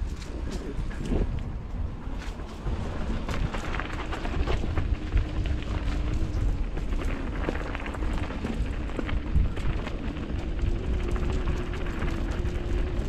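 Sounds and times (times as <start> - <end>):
bike rattling and clicking: 0.0 - 13.0
tyres crunching over dirt: 0.0 - 13.0
wind buffeting microphone: 0.0 - 13.0.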